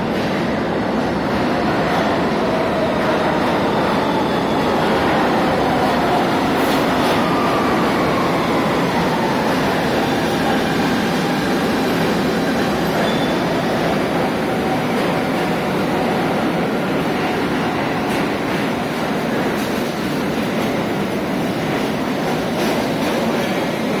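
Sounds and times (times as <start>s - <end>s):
rumble of train wheels on rails: 0.0s - 24.0s.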